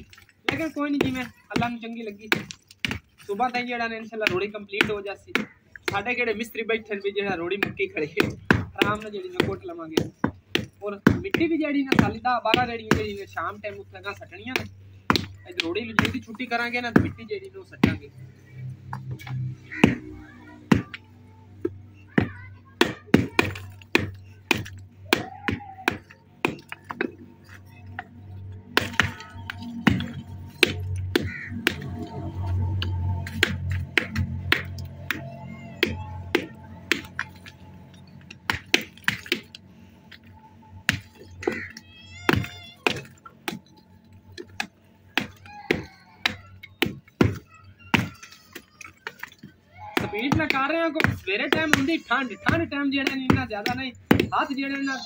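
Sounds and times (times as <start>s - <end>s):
hammers striking bricks: 0.0s - 6.6s, 7.2s - 18.1s, 18.9s - 21.0s, 21.6s - 40.2s, 40.8s - 55.0s.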